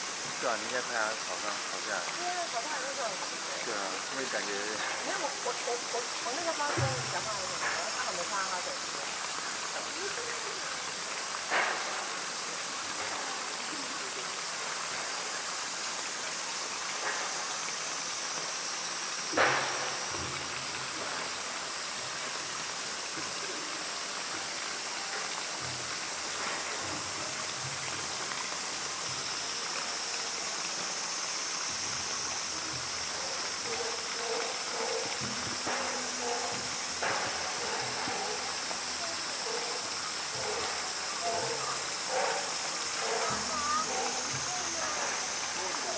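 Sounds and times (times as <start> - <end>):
rushing hissing noise: 0.0 - 45.9.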